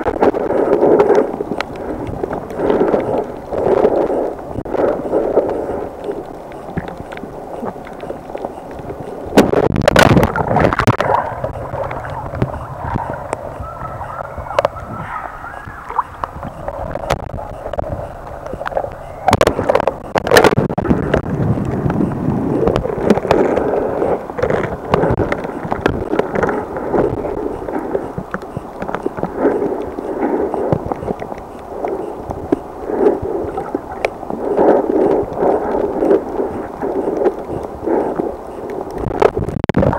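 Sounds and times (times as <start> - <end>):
underwater sloshing and gurgling: 0.0 - 39.9
water splashing: 0.0 - 39.9.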